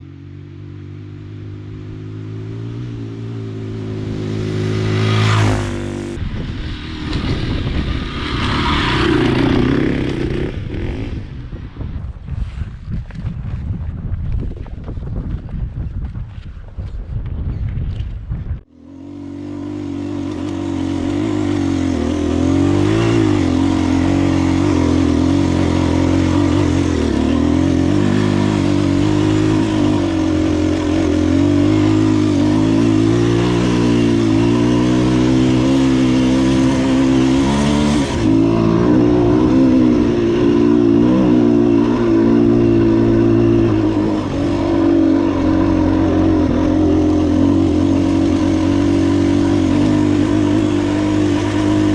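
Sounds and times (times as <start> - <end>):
dirt bike engine revving: 0.6 - 11.4, 18.7 - 51.9.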